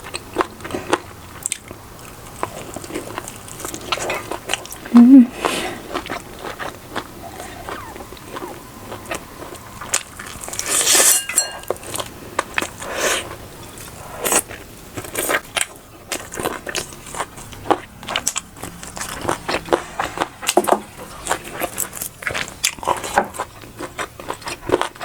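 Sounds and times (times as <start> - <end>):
food crunch: 0.0 - 25.0
person chewing food: 0.0 - 25.0.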